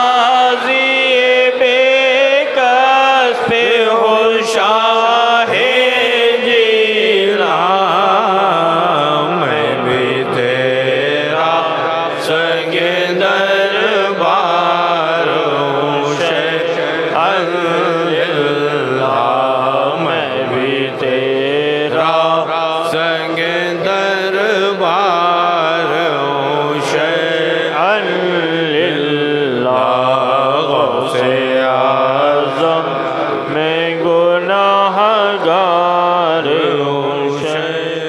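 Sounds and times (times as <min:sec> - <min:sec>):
man singing melismatic chant: 0:00.0 - 0:38.0.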